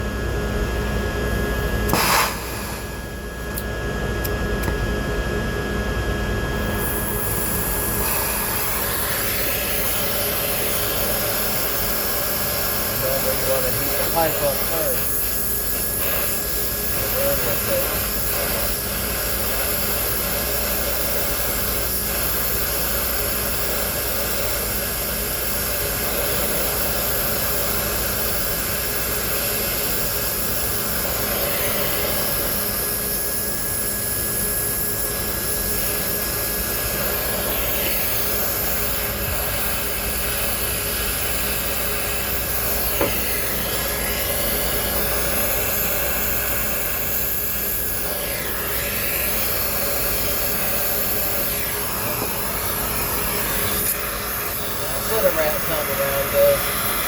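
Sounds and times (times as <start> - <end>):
torch flame hissing: 1.8 - 3.7, 6.6 - 57.0.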